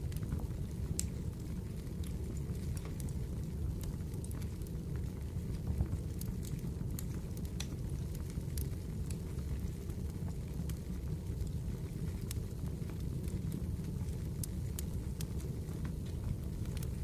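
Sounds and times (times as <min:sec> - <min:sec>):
fire popping and crackling: 0:00.0 - 0:17.0
fireplace rumble: 0:00.0 - 0:17.0.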